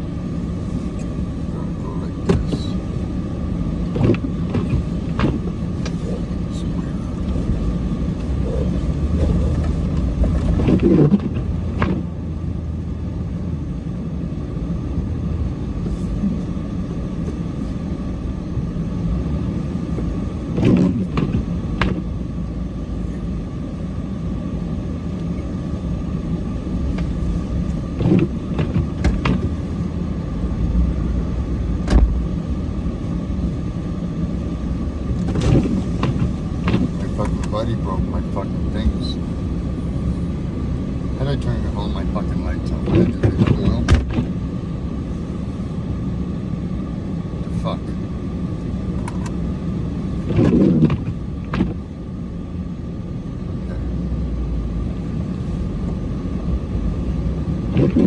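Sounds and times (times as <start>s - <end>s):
diesel truck engine rumbling: 0.0s - 58.0s.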